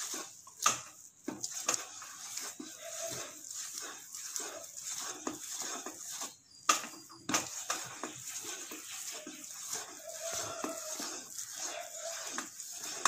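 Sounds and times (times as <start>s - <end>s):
spatula scraping pan: 0.0s - 13.0s.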